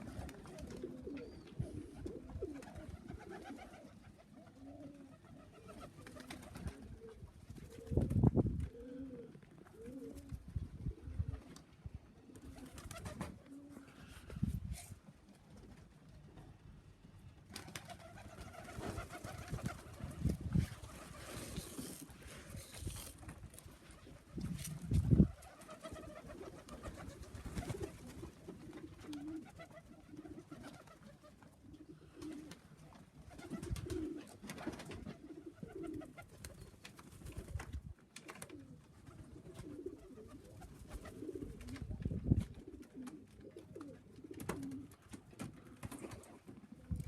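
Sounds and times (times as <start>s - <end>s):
pigeons cooing: 0.0s - 14.5s, 17.8s - 36.7s, 38.4s - 45.0s.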